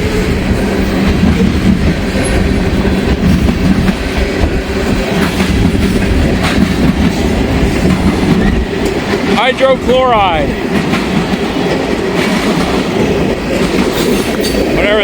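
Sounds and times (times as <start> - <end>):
freight train cars rolling past: 0.0 - 15.0
wind blowing across microphone: 0.0 - 15.0.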